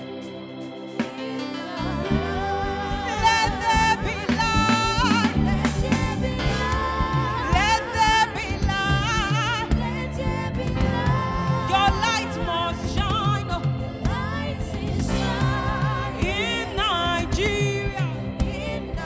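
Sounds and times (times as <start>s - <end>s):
instrumental backing music: 0.0s - 19.0s
woman singing gospel song: 1.5s - 19.0s.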